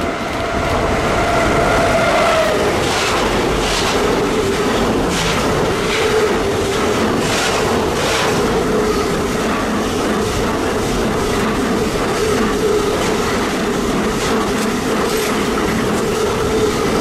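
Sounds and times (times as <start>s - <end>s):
wheel-on-rail rumble: 0.0s - 17.0s.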